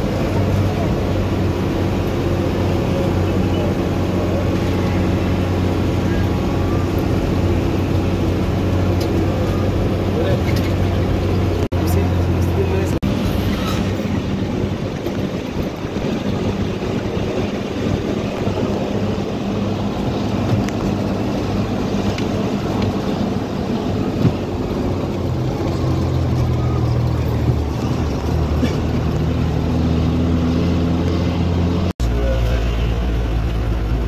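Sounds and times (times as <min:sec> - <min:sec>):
bus engine under load: 0:00.0 - 0:34.0
road noise: 0:00.0 - 0:34.0.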